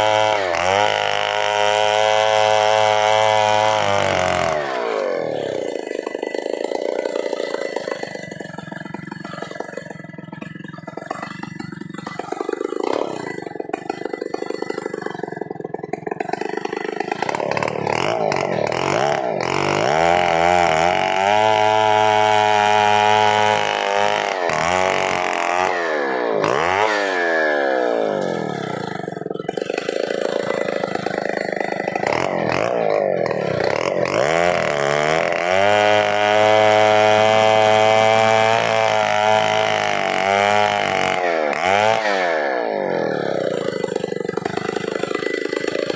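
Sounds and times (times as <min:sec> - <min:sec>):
chainsaw revving and cutting wood: 0:00.0 - 0:45.9.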